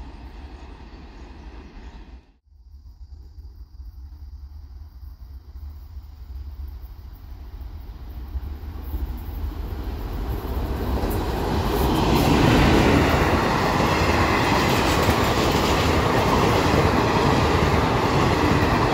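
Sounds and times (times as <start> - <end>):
freight train wheels on rail: 0.0 - 2.4, 5.5 - 18.9.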